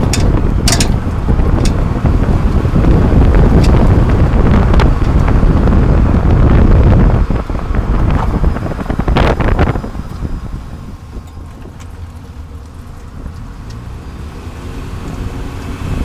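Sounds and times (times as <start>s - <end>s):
tyre road and wind noise: 0.0s - 16.0s.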